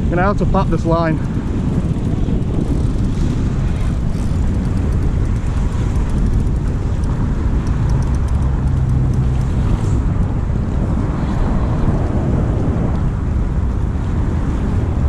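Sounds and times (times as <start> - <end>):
low hum: 0.0 - 15.0
wind buffeting microphone: 0.0 - 15.0.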